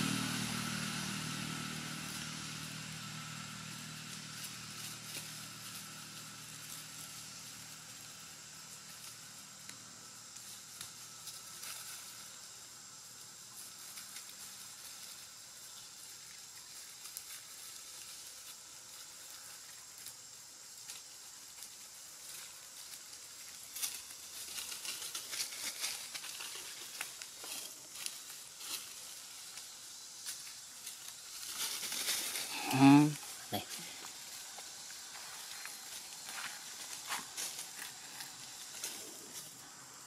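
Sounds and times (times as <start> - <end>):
faint steady hiss: 0.0 - 40.0
leaf litter rustling and crackling: 0.0 - 40.0.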